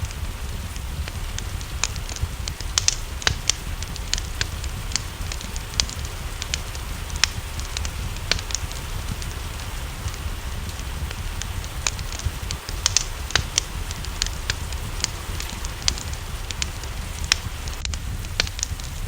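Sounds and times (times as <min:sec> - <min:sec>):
low rumble: 0:00.0 - 0:19.0
soft hiss of rain: 0:00.0 - 0:19.0
wood fire crackling and popping: 0:00.0 - 0:19.0.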